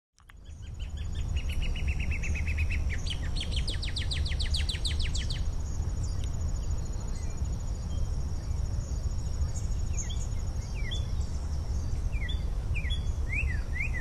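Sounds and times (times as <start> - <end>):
steady high-pitched whine: 0.2 - 14.0
songbird trilling: 0.3 - 14.0.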